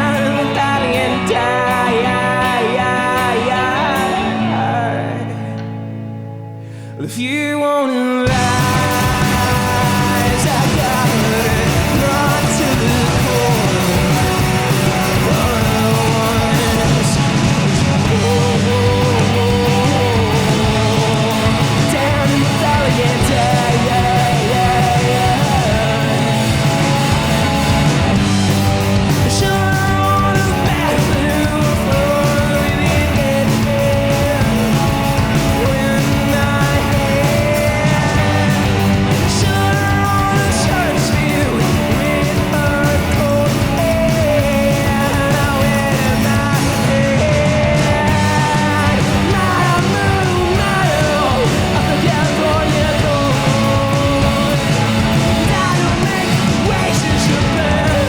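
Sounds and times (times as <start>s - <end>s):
bass guitar: 0.0s - 58.0s
distorted electric guitar: 0.0s - 58.0s
drums: 0.0s - 58.0s.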